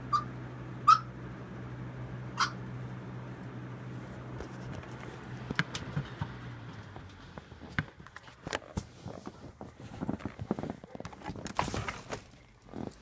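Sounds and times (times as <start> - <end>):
car engine running: 0.0 - 10.7.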